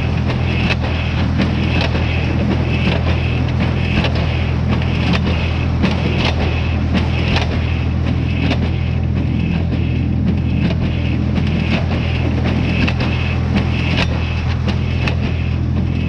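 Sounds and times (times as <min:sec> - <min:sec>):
tractor engine drone: 0:00.0 - 0:16.0.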